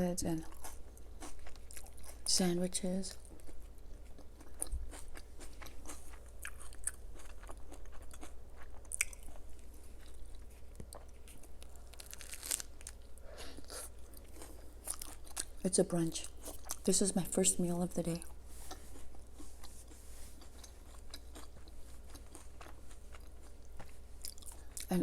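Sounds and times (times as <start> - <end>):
chewing crunchy food: 0.4 - 2.3, 3.1 - 16.9, 18.1 - 25.0.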